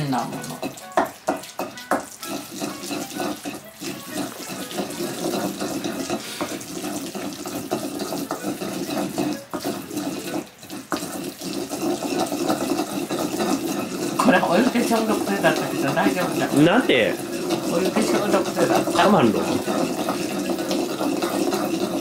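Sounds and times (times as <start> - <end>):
tap running water into sink: 0.0 - 22.0.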